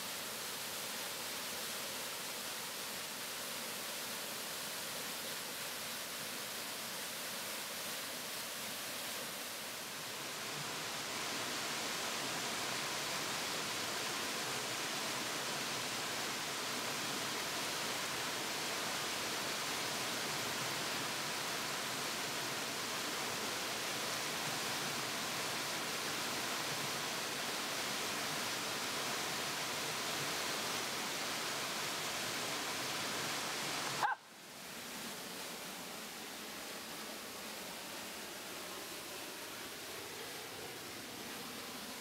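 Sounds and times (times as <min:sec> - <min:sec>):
waterfall and stream rushing: 0:00.0 - 0:42.0.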